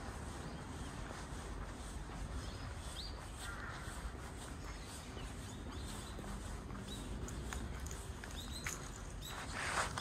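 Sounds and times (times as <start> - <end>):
soft footsteps: 0.0 - 10.0.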